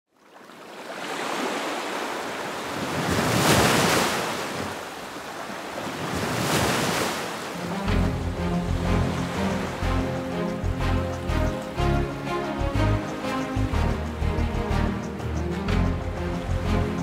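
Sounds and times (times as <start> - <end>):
ocean waves washing in: 0.2 - 17.0.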